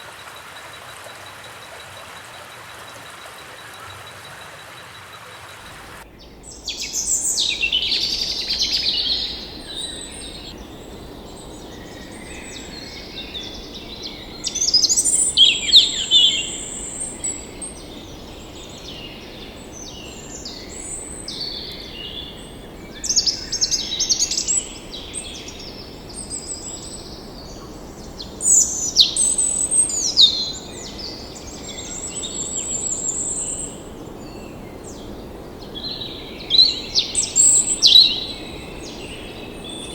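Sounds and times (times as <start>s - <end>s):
outdoor ambience hiss: 0.0s - 39.9s
songbirds warbling: 0.0s - 39.9s.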